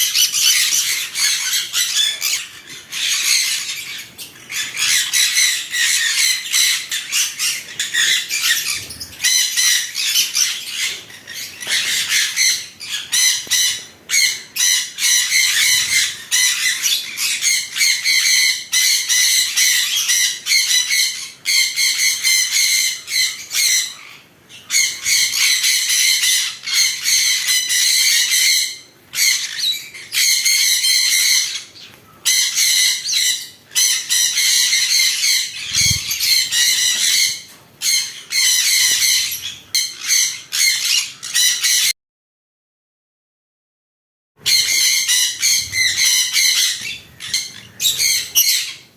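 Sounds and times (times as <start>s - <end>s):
pet birds chattering and squawking: 0.0s - 41.9s, 44.4s - 48.9s.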